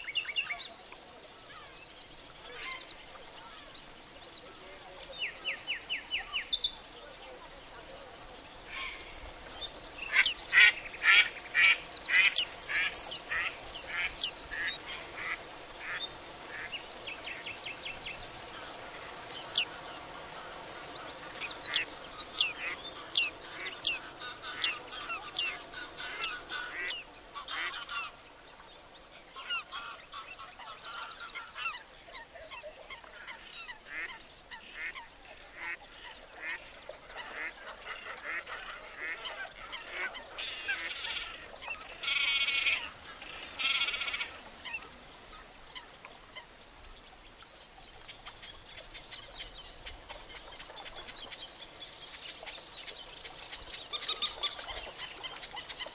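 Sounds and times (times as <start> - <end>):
waterbirds calling: 0.0 - 55.9.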